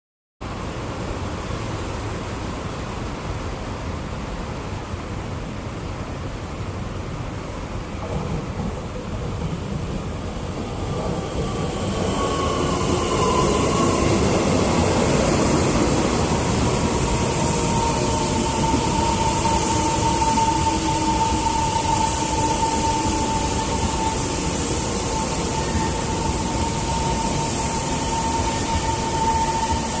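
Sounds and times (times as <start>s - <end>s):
electric train rumbling: 0.4s - 30.0s.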